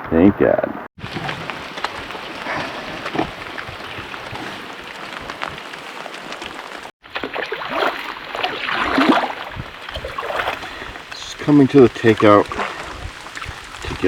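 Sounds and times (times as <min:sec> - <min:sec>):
rain pattering on water: 0:01.0 - 0:14.0.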